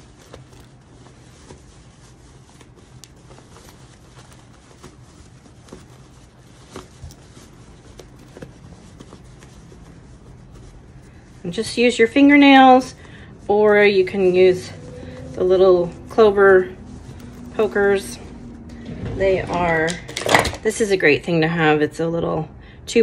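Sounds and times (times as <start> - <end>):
fabric rustling: 0.0 - 21.1.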